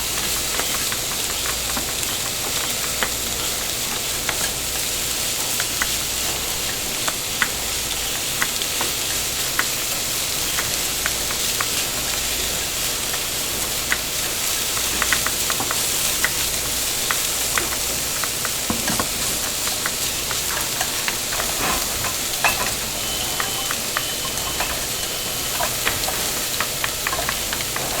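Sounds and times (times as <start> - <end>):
food sizzling in pans: 0.0 - 28.0
utensils and cookware clinking: 5.5 - 28.0.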